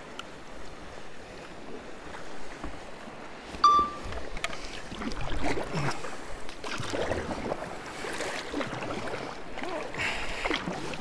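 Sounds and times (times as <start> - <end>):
water sloshing around boat: 0.3 - 11.0
paddle blades splashing: 0.6 - 11.0.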